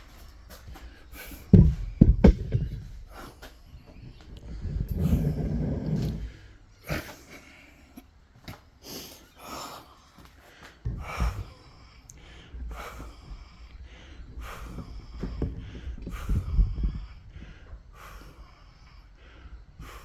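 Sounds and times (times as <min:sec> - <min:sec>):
low bumps: 0:00.0 - 0:07.7, 0:10.8 - 0:20.0
man breathing hard: 0:00.0 - 0:20.0.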